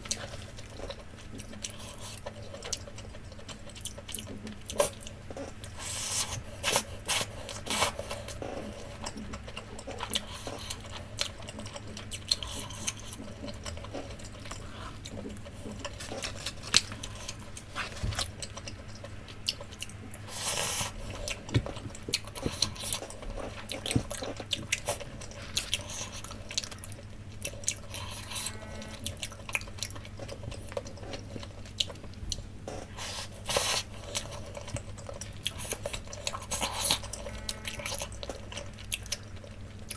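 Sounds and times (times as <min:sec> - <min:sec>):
close chewing and squishing: 0:00.0 - 0:39.9.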